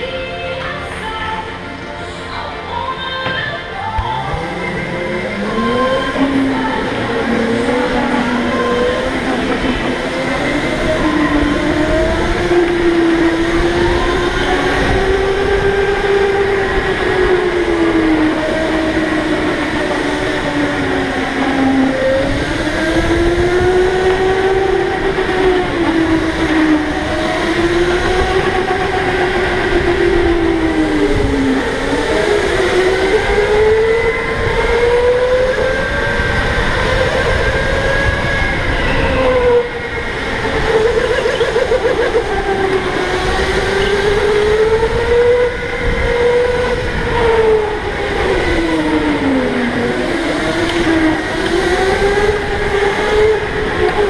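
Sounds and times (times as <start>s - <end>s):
low rumble of kart on concrete: 0.0s - 54.0s
electric go-kart motor whining: 2.7s - 54.0s.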